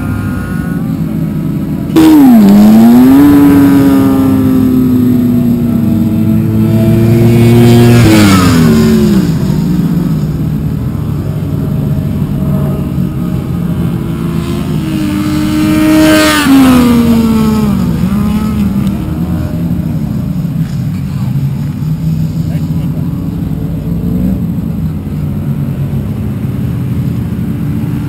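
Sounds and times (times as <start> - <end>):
racing motorcycles passing by: 0.0 - 28.0.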